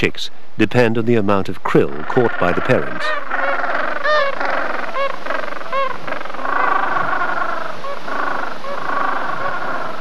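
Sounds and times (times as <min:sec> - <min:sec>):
penguins calling: 0:01.9 - 0:10.0.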